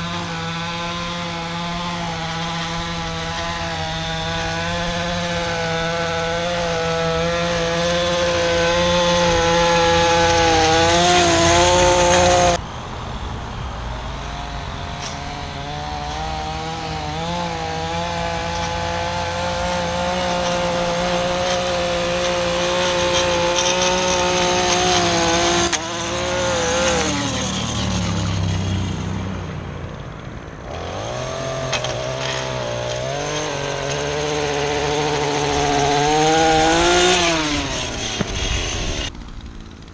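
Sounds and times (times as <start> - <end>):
string trimmer engine running: 0.0 - 12.6, 13.9 - 39.9.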